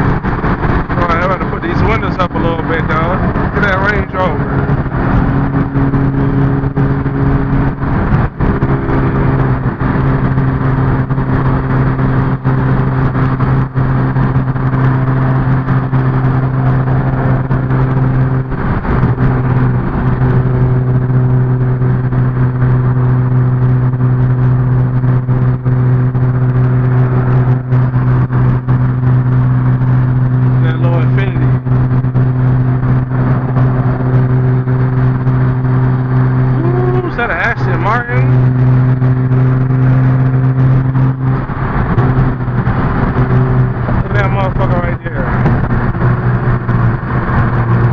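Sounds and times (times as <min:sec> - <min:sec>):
car engine droning: 0:00.0 - 0:47.9
tyre and road noise: 0:00.0 - 0:47.9.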